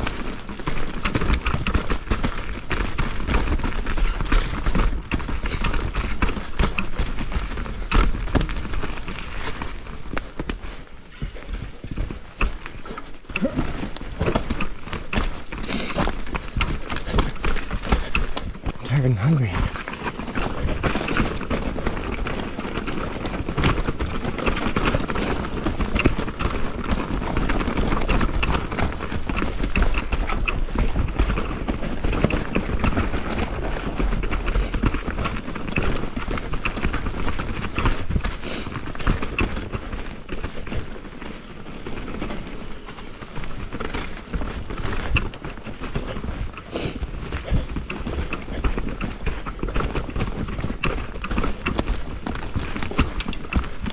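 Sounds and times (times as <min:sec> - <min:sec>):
bike rattling: 0:00.0 - 0:53.9
bike tyres crunching over stones: 0:00.0 - 0:53.9.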